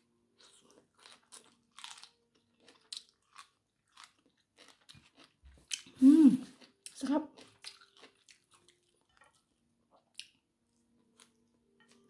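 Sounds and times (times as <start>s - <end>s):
close-up chewing and biting: 0.3s - 12.0s.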